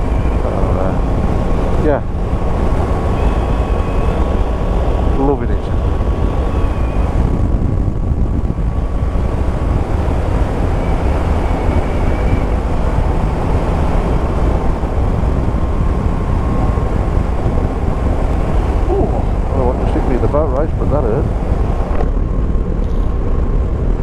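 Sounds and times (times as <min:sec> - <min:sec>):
motorcycle engine cruising: 0:00.0 - 0:24.0
wind rushing on microphone: 0:00.0 - 0:24.0.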